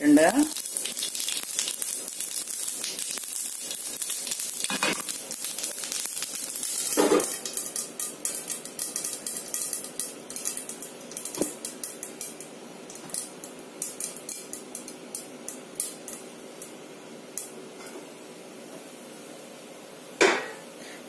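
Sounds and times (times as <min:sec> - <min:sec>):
seeds popping in hot oil: 0:00.1 - 0:17.6.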